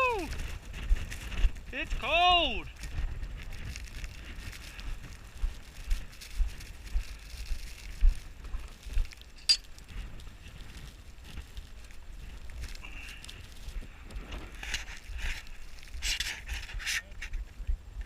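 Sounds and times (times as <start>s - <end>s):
wind rumble on microphone: 0.0s - 18.0s
footsteps in snow: 0.1s - 16.9s.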